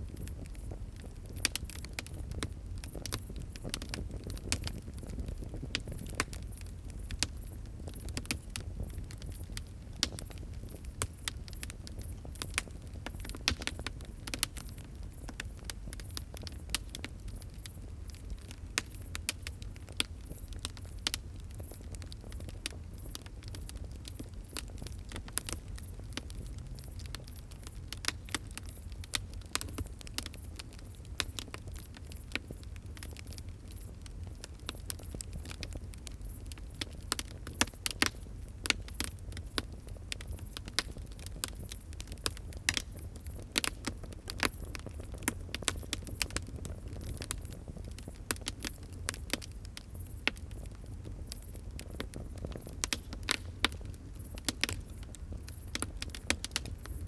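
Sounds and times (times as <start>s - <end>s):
fire pops and snaps: 0.0s - 57.0s
low rumble of flames: 0.0s - 57.0s
wood fire crackling: 0.0s - 57.0s.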